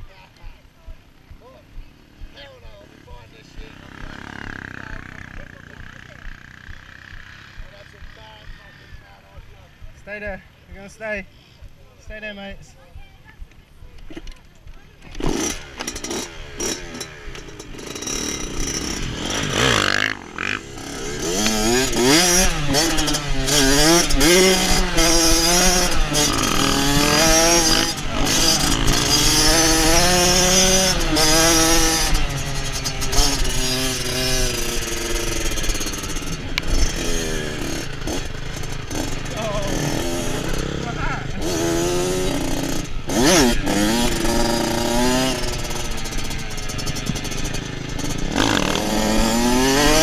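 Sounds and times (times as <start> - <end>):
dirt bike engine revving: 1.0 - 11.1, 15.0 - 50.0.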